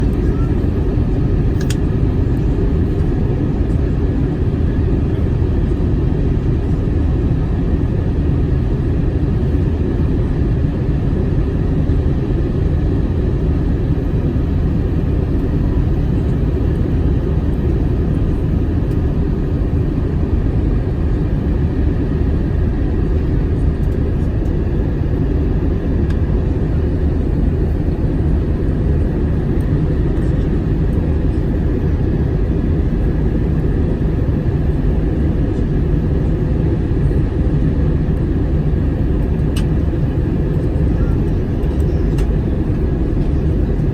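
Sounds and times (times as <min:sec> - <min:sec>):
airplane engines rumbling: 0:00.0 - 0:43.9.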